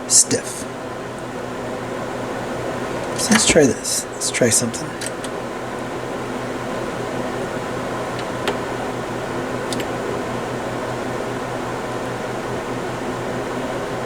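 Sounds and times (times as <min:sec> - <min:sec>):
fan-like hum: 0:00.0 - 0:14.0.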